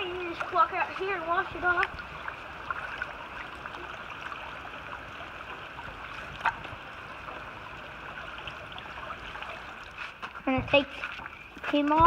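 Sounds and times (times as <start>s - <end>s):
rain on flooded pavement: 0.0s - 12.0s
water sloshing: 0.0s - 12.0s.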